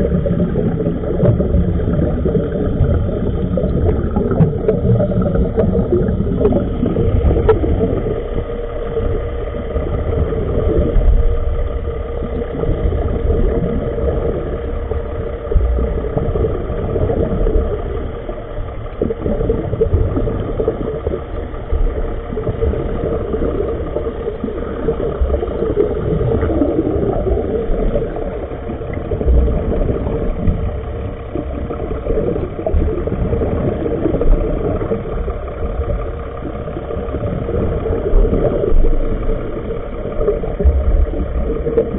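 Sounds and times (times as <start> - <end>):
faint constant hum: 0.0 - 41.9
underwater low rumble: 0.0 - 41.9.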